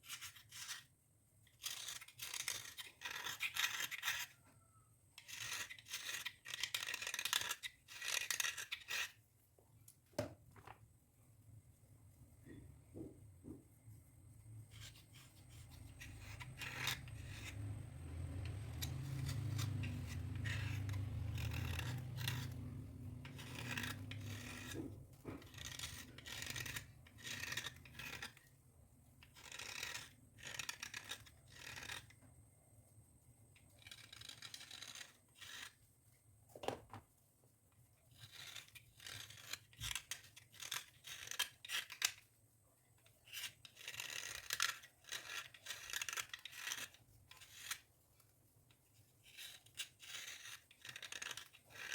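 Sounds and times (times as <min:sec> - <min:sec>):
dry scraping and rubbing: 0:00.0 - 0:09.8, 0:10.6 - 0:51.9.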